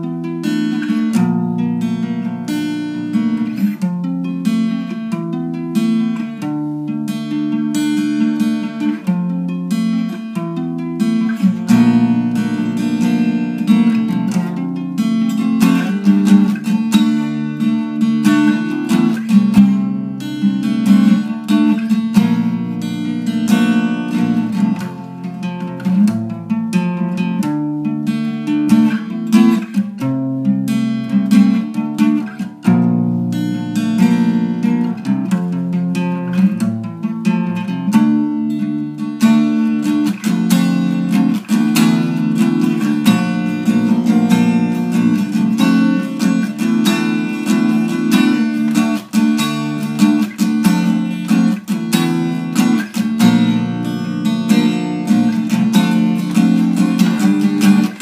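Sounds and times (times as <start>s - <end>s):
acoustic guitar playing: 0.0s - 58.0s.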